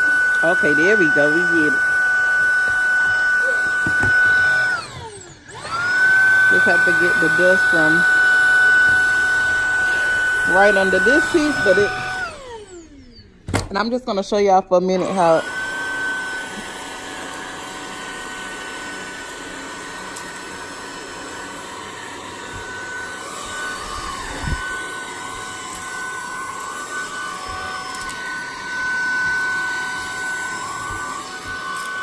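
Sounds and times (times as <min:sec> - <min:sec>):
cordless vacuum running: 0:00.0 - 0:13.9, 0:14.8 - 0:32.0.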